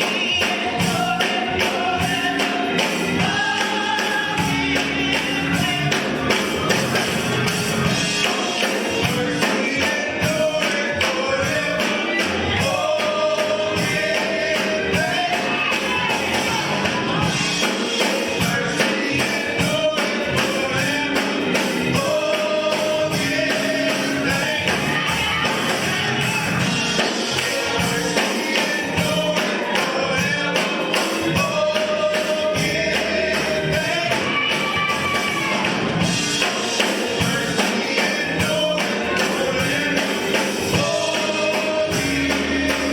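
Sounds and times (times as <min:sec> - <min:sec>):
band playing: 0:00.0 - 0:42.9
choir singing gospel: 0:00.0 - 0:42.9
tambourine beat: 0:00.0 - 0:42.9.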